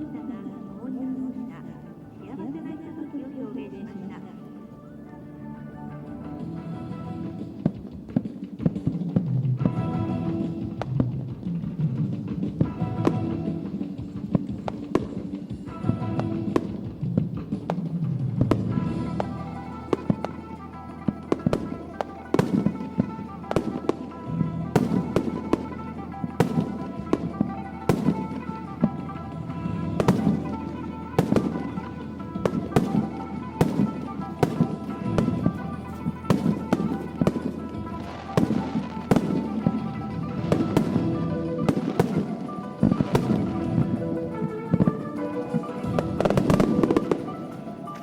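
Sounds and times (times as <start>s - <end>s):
music: 0.0s - 48.0s
fireworks crackling: 5.6s - 48.0s
fireworks bangs: 6.0s - 48.0s.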